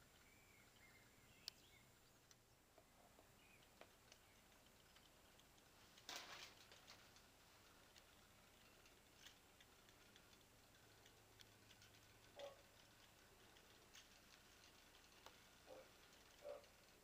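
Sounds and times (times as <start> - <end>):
faint ticks: 0.0 - 17.0.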